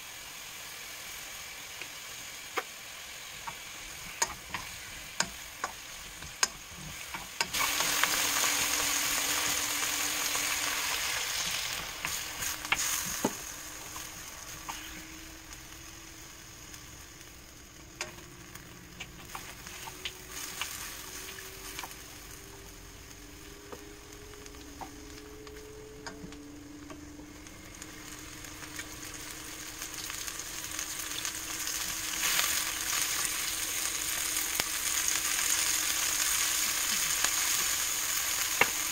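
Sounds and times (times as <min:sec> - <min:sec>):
food sizzling in oil: 0:00.0 - 0:38.9.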